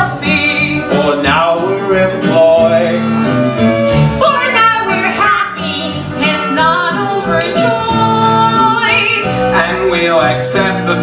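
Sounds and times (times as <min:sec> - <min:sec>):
instrumental accompaniment: 0:00.0 - 0:11.0.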